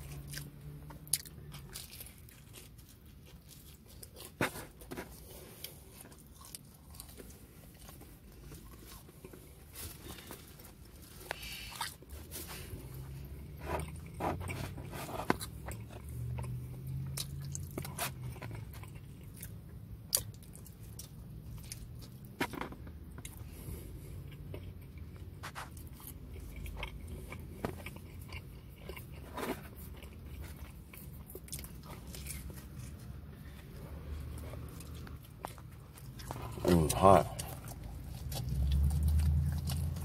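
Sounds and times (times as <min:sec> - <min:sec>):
low steady hum: 0:00.0 - 0:40.0
person chewing food: 0:00.0 - 0:40.0.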